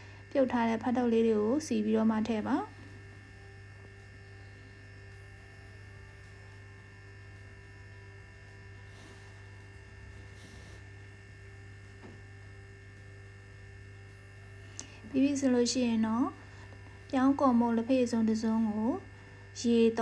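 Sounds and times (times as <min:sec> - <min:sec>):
faint electrical mains hum: 0:00.0 - 0:20.0
thin steady whining tones: 0:00.0 - 0:20.0.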